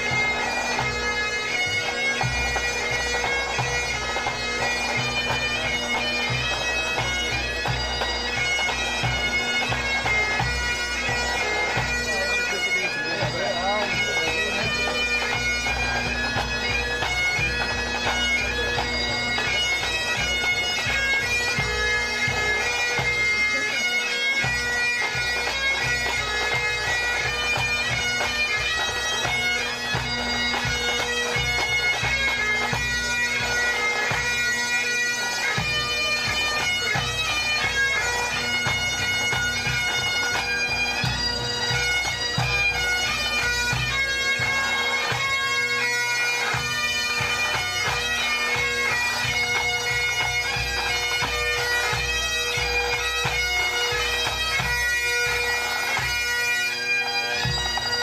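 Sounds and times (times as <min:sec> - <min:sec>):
bagpipes playing melody: 0:00.0 - 0:58.0.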